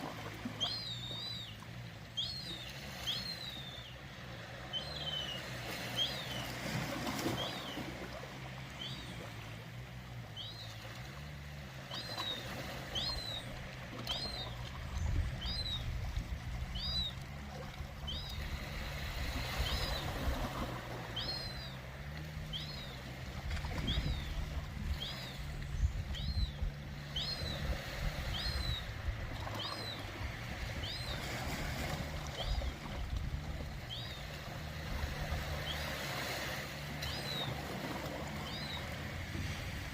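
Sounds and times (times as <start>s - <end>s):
ocean water washing: 0.0s - 39.9s.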